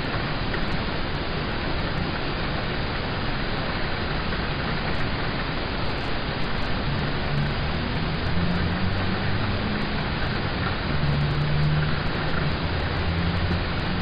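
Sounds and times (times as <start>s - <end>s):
rain on a car heard inside: 0.0s - 14.0s.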